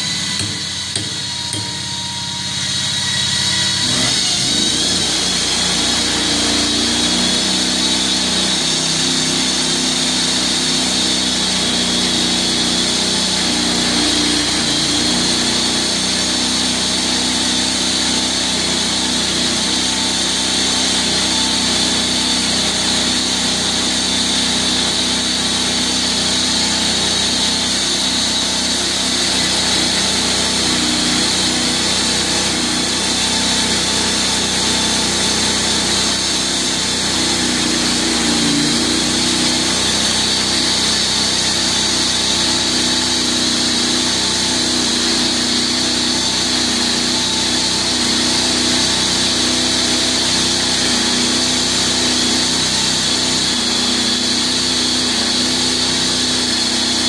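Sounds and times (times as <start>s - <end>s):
band sawmill cutting log: 0.0s - 57.0s.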